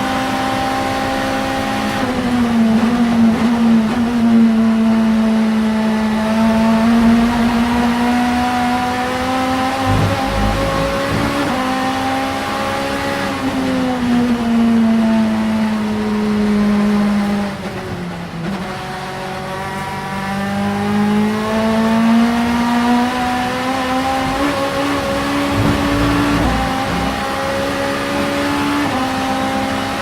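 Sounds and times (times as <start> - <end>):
racing car engine running hard: 0.0 - 30.0.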